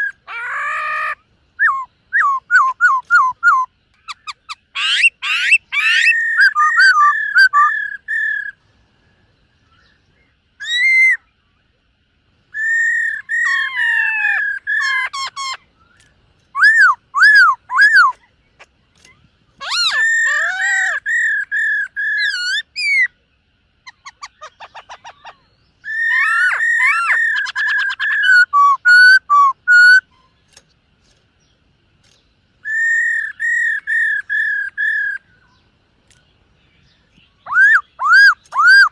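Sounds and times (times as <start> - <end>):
bird whistled song: 0.0 - 11.6, 12.5 - 23.2, 23.8 - 30.6, 31.4 - 38.9
faint rapid bird chatter: 0.0 - 38.9.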